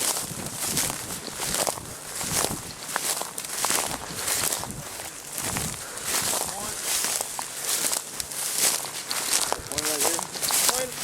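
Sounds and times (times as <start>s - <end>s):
footsteps through field cover: 0.0s - 11.0s.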